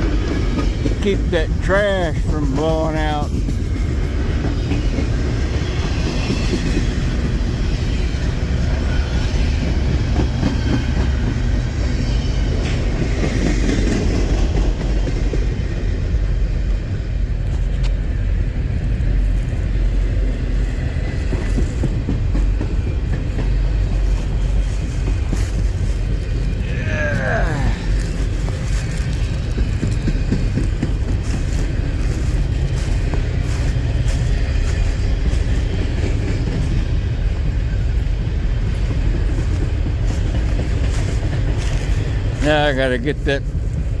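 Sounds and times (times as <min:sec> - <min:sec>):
freight train rumbling past: 0:00.0 - 0:44.0.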